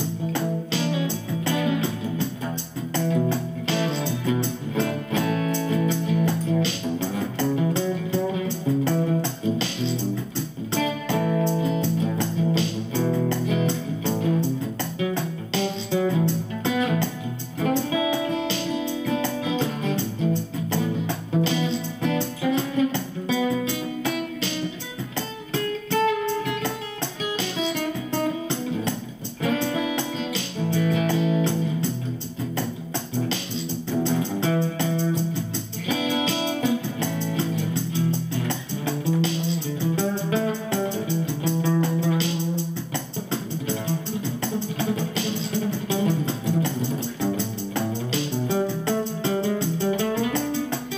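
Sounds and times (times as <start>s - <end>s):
overdriven guitar picking a melody: 0.0s - 50.9s.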